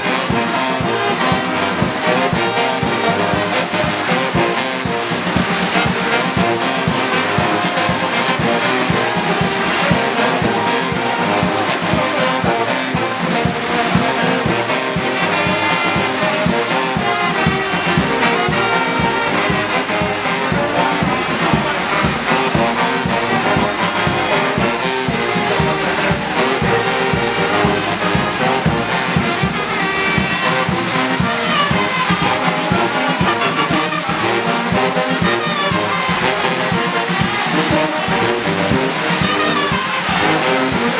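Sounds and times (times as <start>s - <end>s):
brass band music: 0.0s - 40.9s.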